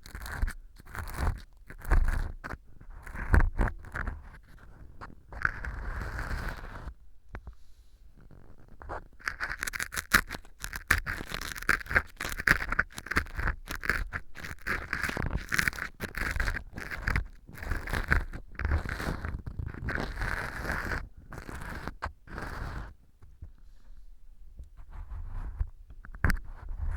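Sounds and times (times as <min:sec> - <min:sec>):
ear pick scraping and crackling: 0:00.0 - 0:07.0, 0:08.2 - 0:23.3, 0:24.6 - 0:26.9.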